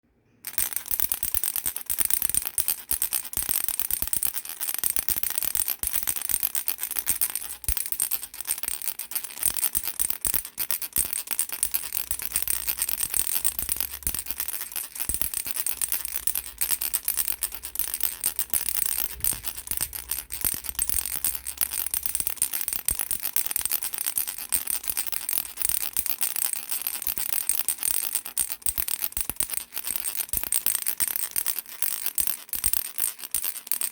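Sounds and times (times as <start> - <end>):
baby rattle shaken: 0.5 - 33.9.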